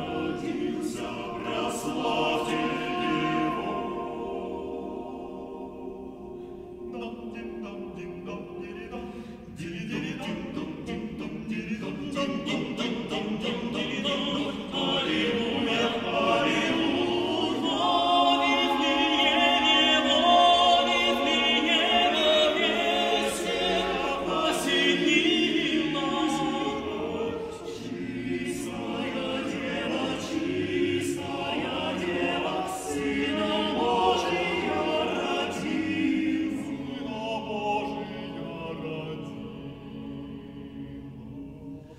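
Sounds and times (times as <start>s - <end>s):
male choir singing a cappella: 0.0s - 41.9s.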